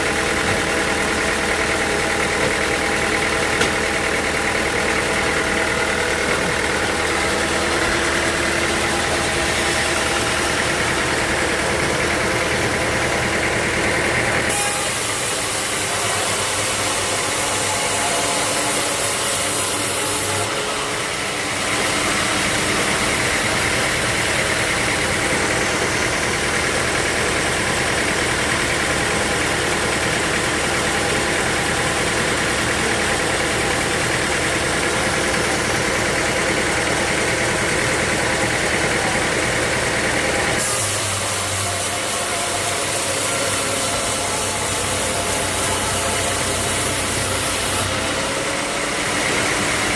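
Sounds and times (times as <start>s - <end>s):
sawmill saw cutting log: 0.0s - 49.9s.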